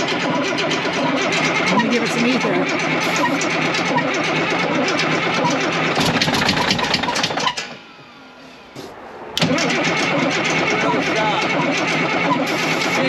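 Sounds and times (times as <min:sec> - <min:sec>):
diesel engine cranking: 0:00.0 - 0:13.0
engine winding down whine: 0:00.0 - 0:13.0.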